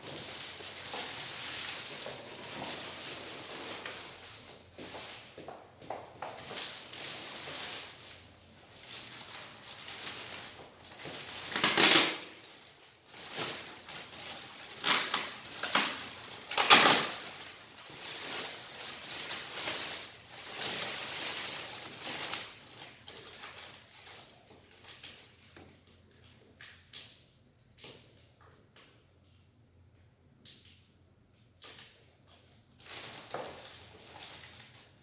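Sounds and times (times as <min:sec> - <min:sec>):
plastic bag crinkling: 0:00.0 - 0:27.2, 0:31.6 - 0:35.0.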